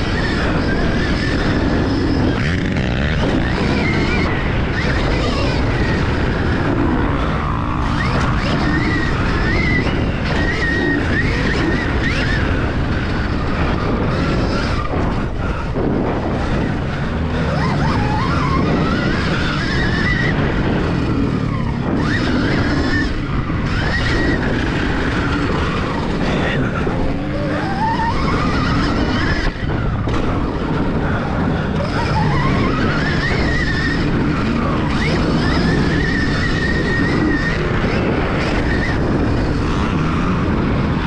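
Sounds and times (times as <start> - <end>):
dirt bike engine revving: 0.0 - 41.0
wind noise: 0.0 - 41.0.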